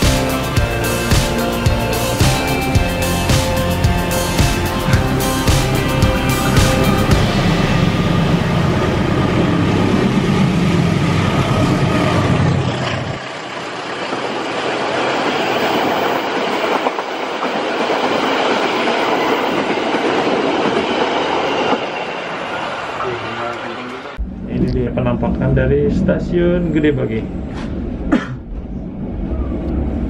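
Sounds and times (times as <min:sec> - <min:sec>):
locomotive rumbling past: 0:00.0 - 0:30.0.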